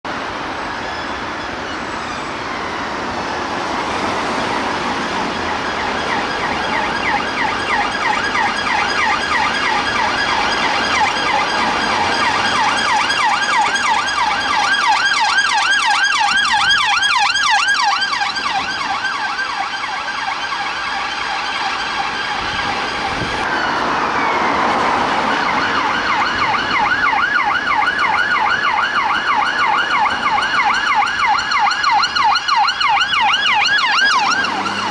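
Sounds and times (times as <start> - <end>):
police sirens wailing and yelping: 0.1 - 34.9.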